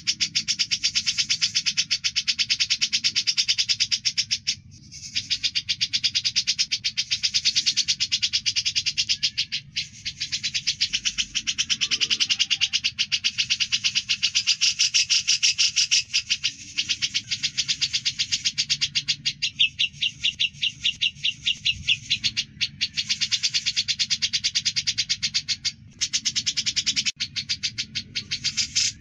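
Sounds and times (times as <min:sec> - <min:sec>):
bird trilling chatter: 0:00.0 - 0:29.0.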